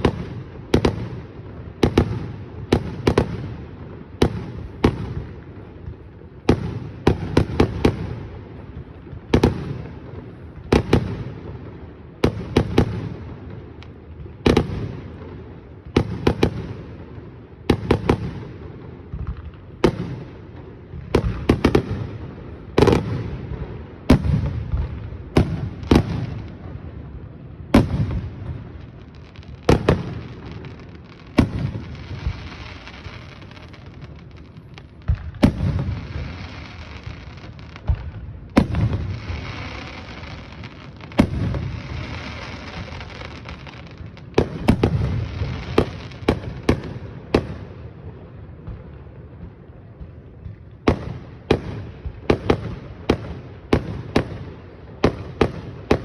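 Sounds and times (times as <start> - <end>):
firework crackling hiss: 0.0 - 47.7
firework booms with echo: 0.0 - 56.0.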